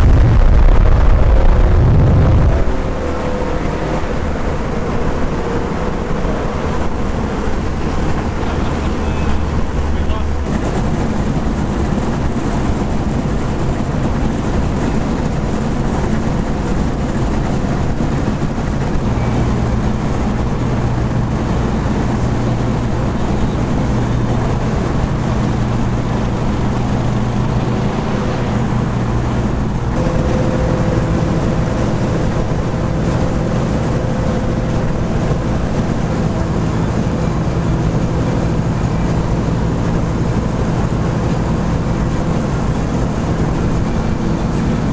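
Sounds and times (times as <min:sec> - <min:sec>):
car engine drone: 0:00.0 - 0:44.9
road noise: 0:00.0 - 0:44.9.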